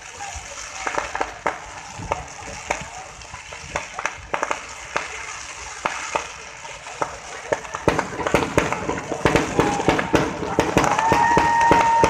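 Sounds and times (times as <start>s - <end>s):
fireworks crackling: 0.0s - 12.0s
fireworks popping: 0.0s - 12.0s.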